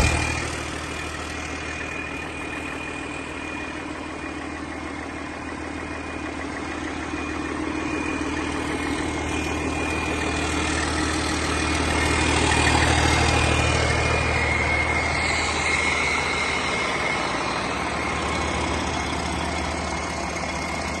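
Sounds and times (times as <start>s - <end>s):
diesel engine running: 0.0s - 21.0s
high whine: 0.0s - 21.0s.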